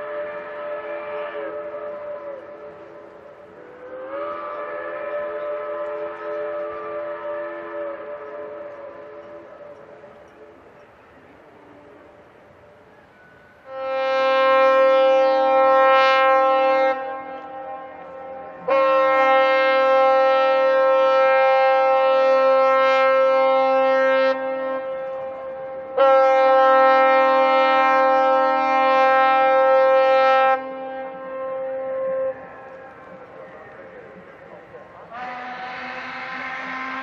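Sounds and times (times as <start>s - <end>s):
steamer whistle blasts: 0.0s - 10.4s, 12.9s - 33.9s, 35.0s - 37.0s.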